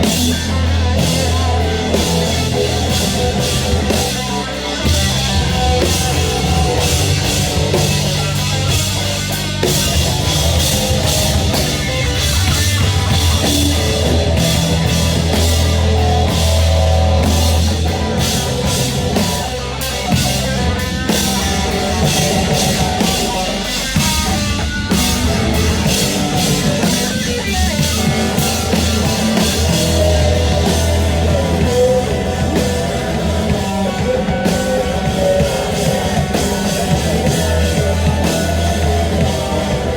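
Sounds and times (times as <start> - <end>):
band playing heavy rock: 0.0 - 39.9
pounding drum kit: 0.0 - 39.9.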